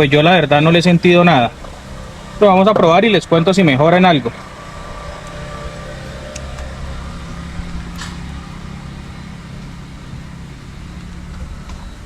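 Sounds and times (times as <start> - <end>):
low vehicle hum: 0.0 - 12.0.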